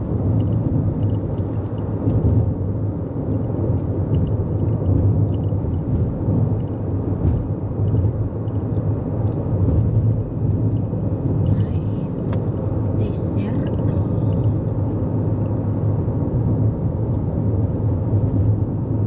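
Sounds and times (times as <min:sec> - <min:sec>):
car tyre road rumble: 0:00.0 - 0:19.0.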